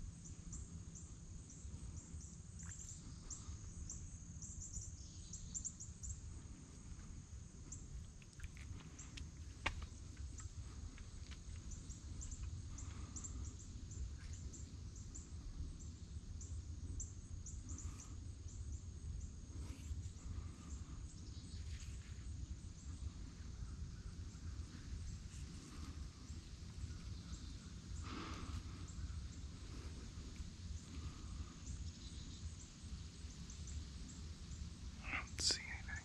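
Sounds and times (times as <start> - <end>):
small birds chirping: 0.1 - 36.0.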